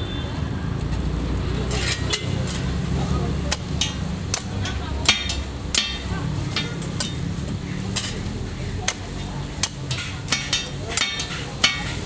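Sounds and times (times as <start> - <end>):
frying sizzle: 0.0 - 12.0
metal spatula clacking on griddle: 1.6 - 12.0.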